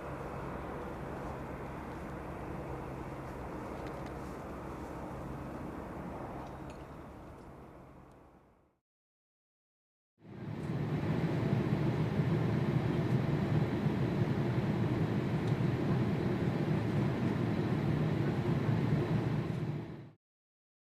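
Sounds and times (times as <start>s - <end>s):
jet engines rumbling: 0.0s - 8.6s, 10.3s - 20.2s.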